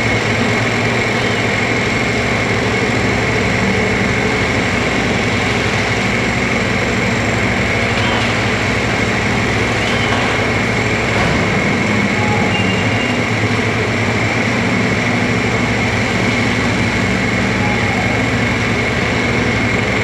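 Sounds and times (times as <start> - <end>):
excavator diesel engine: 0.0 - 20.0
heavy diesel machinery: 0.0 - 20.0.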